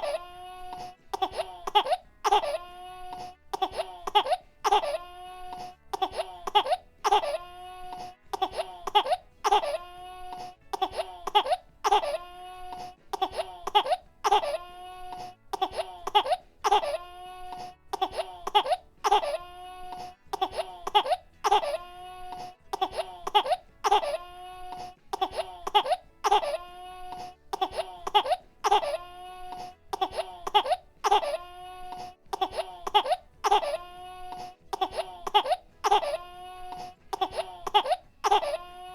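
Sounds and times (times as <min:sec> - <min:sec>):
baby coughing: 0:00.0 - 0:38.9
baby crying: 0:00.0 - 0:38.9.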